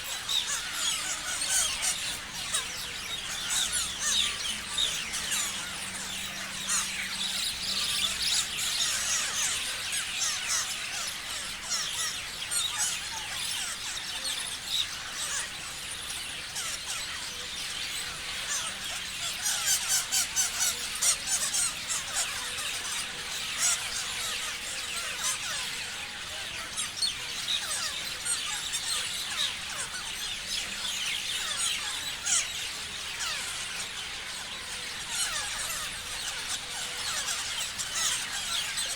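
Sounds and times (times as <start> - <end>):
parrots chirping and screeching: 0.0 - 38.9.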